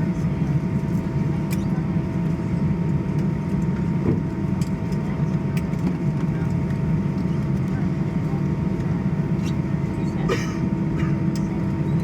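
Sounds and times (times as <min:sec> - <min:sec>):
low aircraft cabin drone: 0:00.0 - 0:12.0.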